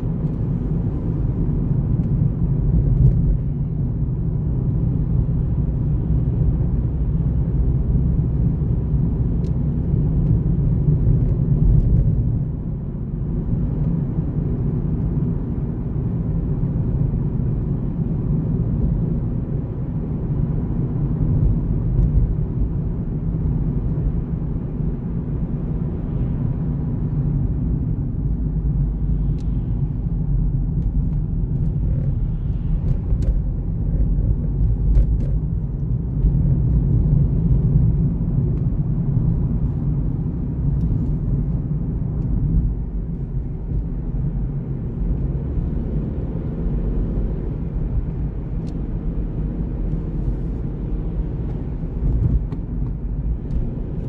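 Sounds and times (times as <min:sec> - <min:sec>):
car driving rumble from inside: 0:00.0 - 0:54.0.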